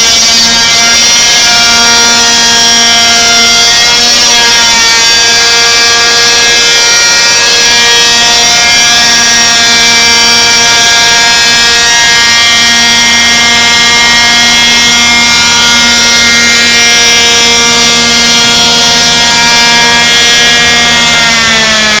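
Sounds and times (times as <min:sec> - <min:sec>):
model helicopter engine: 0:00.0 - 0:22.0.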